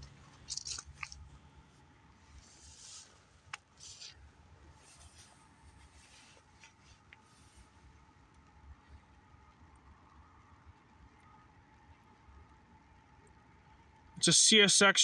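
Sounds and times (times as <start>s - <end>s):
faint low rumble: 0.0s - 14.2s.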